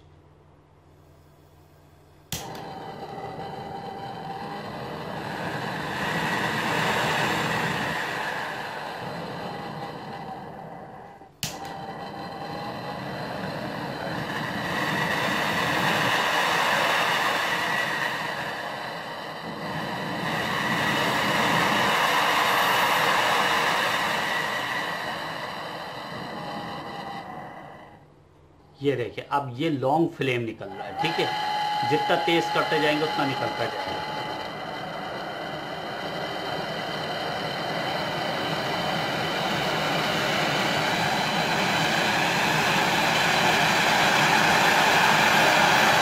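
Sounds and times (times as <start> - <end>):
gas torch flame hissing: 2.3 - 28.1, 30.4 - 46.0.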